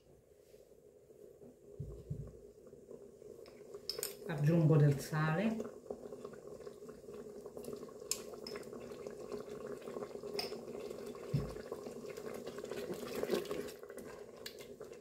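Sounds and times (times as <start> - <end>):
sauce simmering and bubbling: 0.8 - 15.0.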